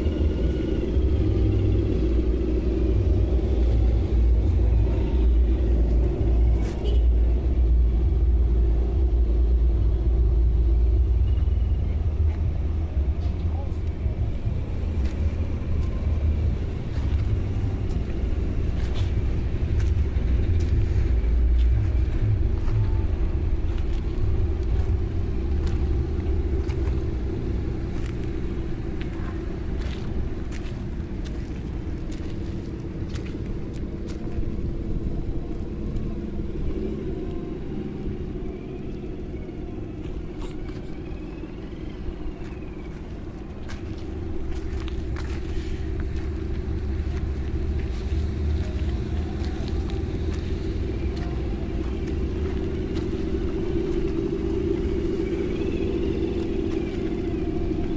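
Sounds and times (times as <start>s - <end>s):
heavy low rumble: 0.0s - 57.9s
high-pitched whine: 0.0s - 57.9s.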